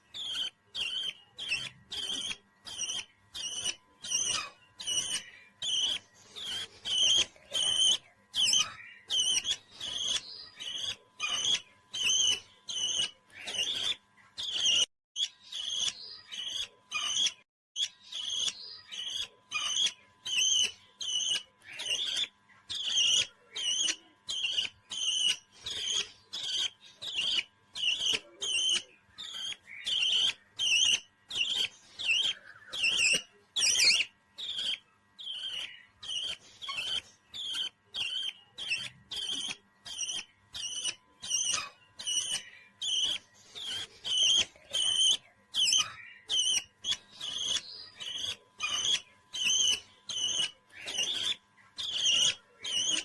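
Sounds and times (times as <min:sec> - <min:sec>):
parrot chirping: 0:00.0 - 0:53.0.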